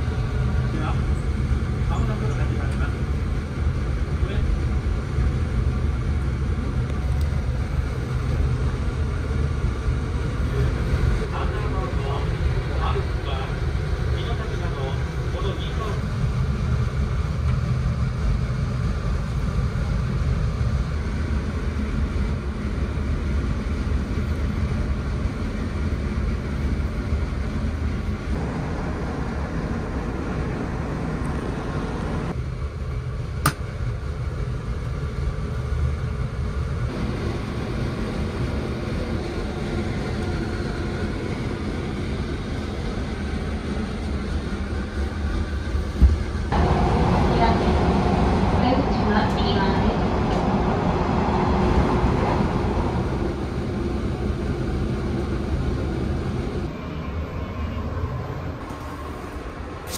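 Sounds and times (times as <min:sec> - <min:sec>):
train rumbling inside car: 0:00.0 - 0:59.9.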